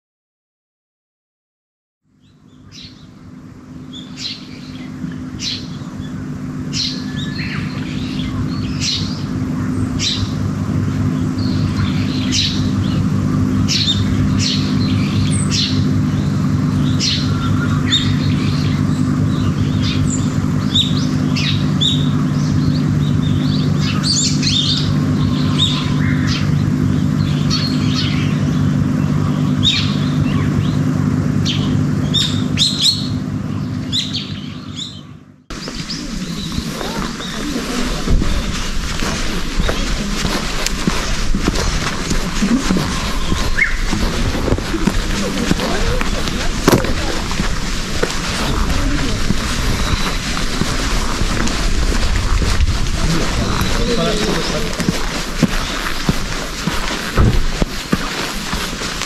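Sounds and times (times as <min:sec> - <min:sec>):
birds chirping: 0:02.1 - 0:59.0
low hum: 0:02.3 - 0:59.0.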